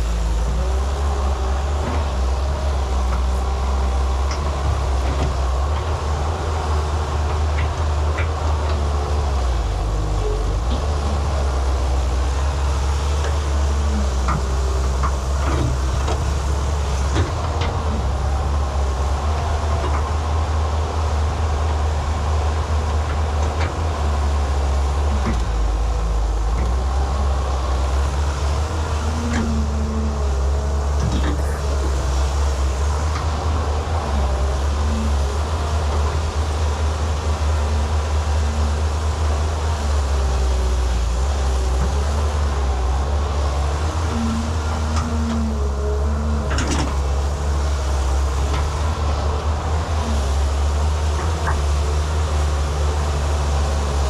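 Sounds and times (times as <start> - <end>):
excavator diesel engine droning: 0.0 - 54.0.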